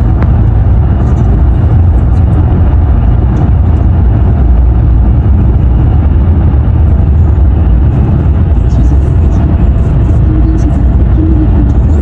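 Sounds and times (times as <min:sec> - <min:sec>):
vehicle road and engine rumble: 0:00.0 - 0:12.0.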